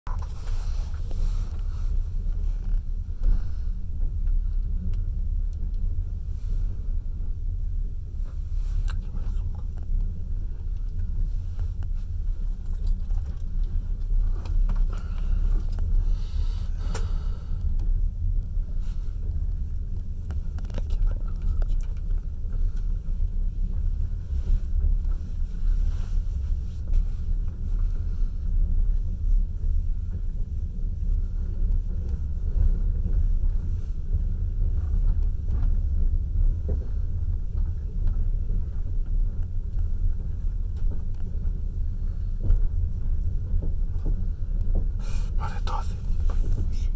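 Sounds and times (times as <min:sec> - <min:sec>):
train rumbling on rails: 0:00.1 - 0:46.9
light clicks of train wheels: 0:02.3 - 0:06.1, 0:07.1 - 0:18.6, 0:19.2 - 0:46.9.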